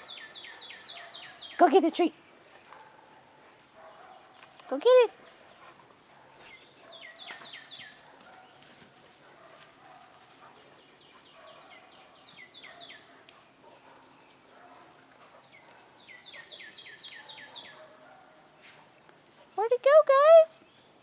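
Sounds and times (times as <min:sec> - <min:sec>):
songbird singing: 0:00.0 - 0:21.0
faint ticks and rustles: 0:01.7 - 0:21.0.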